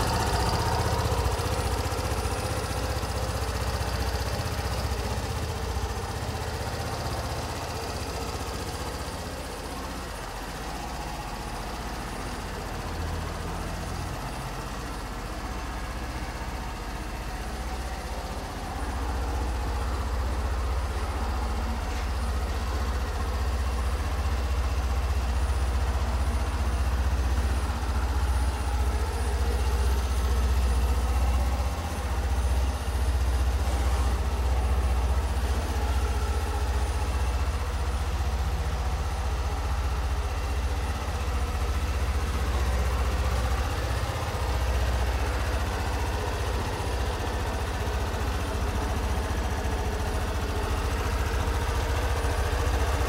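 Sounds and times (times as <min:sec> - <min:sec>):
scooter engine idling: 0:00.0 - 0:53.0.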